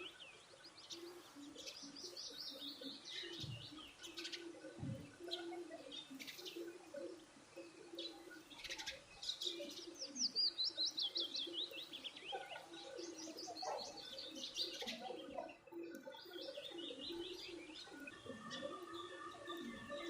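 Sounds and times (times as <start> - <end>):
small birds chirping: 0.0 - 20.0
soft low bird calls: 0.0 - 20.0.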